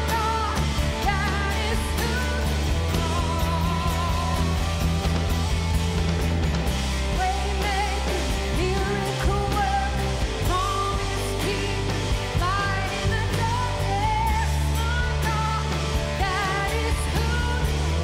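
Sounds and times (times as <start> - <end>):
woman singing lead melody: 0.0 - 5.5, 7.0 - 18.0
live worship band playing: 0.0 - 18.0.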